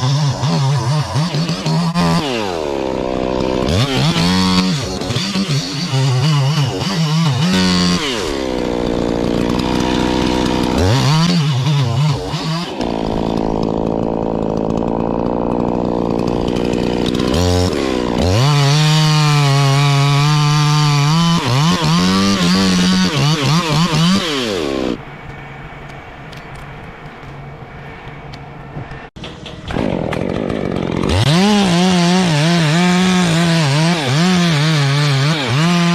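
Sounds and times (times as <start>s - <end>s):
chainsaw engine revving: 0.0s - 25.0s, 29.5s - 35.9s.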